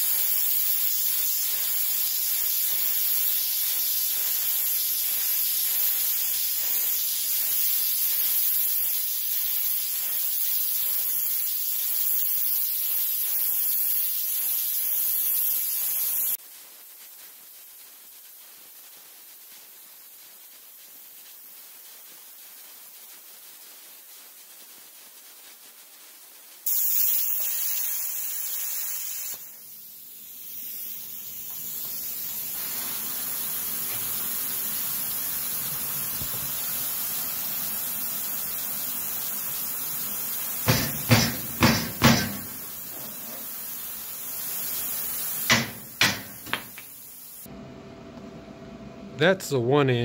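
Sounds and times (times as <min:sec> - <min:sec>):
plasma cutter hissing: 0:00.0 - 0:25.6, 0:26.5 - 0:47.5.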